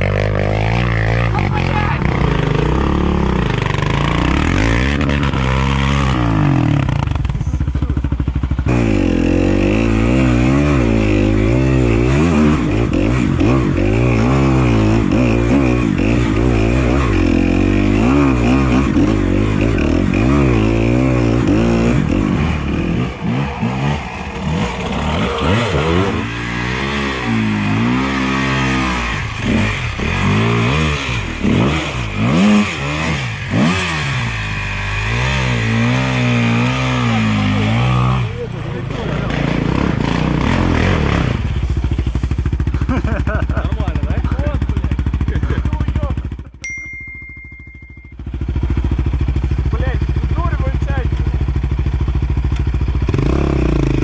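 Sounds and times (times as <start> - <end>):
quad engine revving: 0.0 - 46.5, 48.4 - 54.0.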